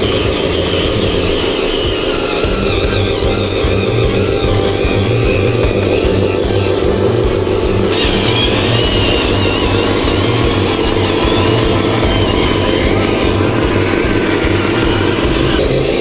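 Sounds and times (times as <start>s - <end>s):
model truck whining drone: 0.0s - 16.0s.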